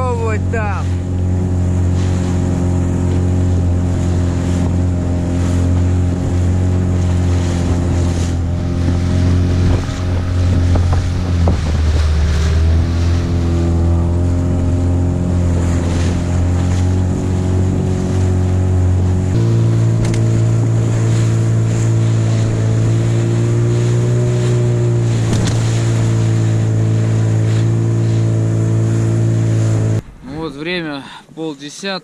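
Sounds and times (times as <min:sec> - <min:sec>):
boat engine running: 0:00.0 - 0:30.5
rushing water: 0:00.0 - 0:32.0
wind: 0:00.0 - 0:32.0.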